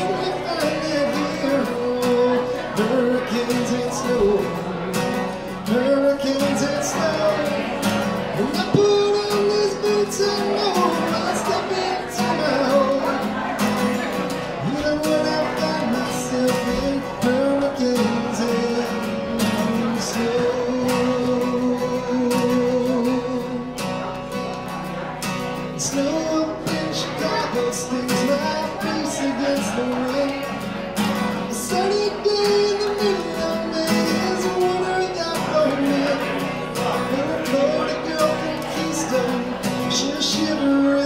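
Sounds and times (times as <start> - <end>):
man singing through pa: 0.0 - 4.9, 5.6 - 13.6, 14.6 - 23.8, 25.7 - 30.7, 31.4 - 41.0
acoustic guitar strumming: 0.0 - 41.0.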